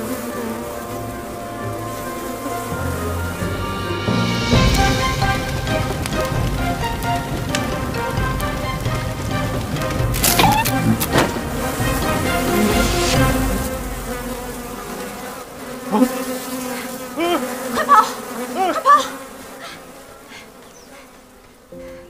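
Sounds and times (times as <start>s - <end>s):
hornets buzzing: 0.0s - 22.0s.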